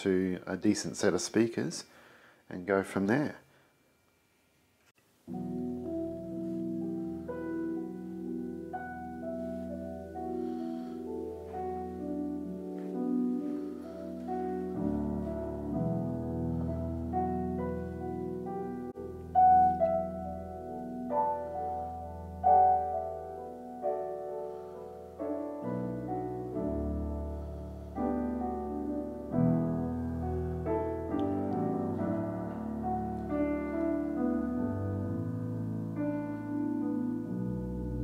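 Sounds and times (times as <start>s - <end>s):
slow piano notes and chords: 5.2s - 38.0s.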